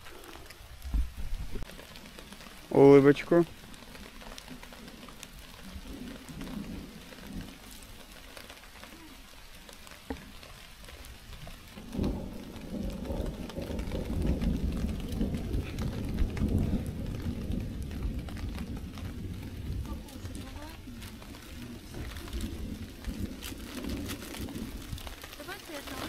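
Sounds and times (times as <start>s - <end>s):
rain pattering: 0.0s - 26.0s
thunder rumbling: 0.0s - 26.0s.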